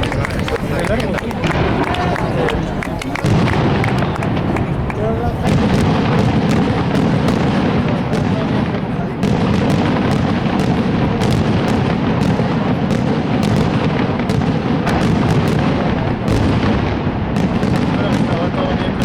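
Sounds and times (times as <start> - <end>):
fireworks booming and cracking: 0.0 - 19.0.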